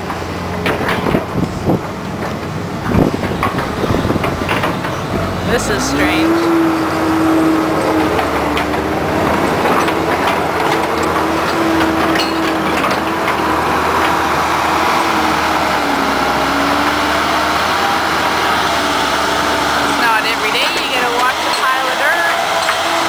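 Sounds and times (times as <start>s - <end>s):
loader engine whining at high revs: 0.0s - 23.0s
machine and track clanks: 0.0s - 23.0s.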